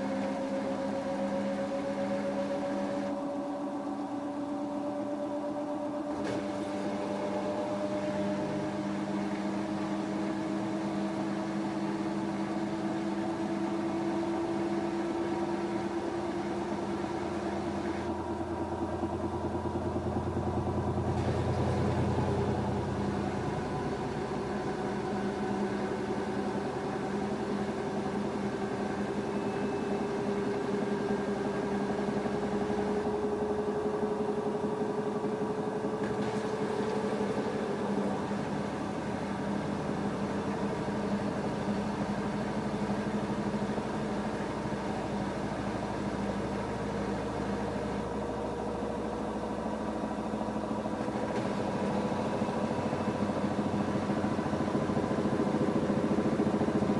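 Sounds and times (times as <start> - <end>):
washing machine motor whine: 0.0 - 56.9.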